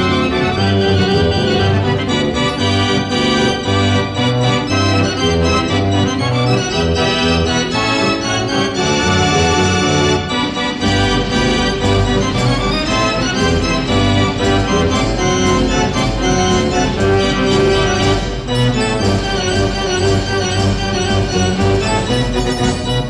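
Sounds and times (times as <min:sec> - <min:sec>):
band organ playing a tune: 0:00.0 - 0:23.0.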